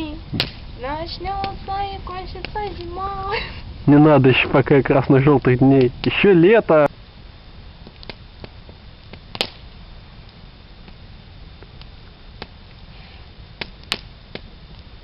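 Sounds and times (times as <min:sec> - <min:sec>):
campfire wood crackling: 0:00.0 - 0:15.0.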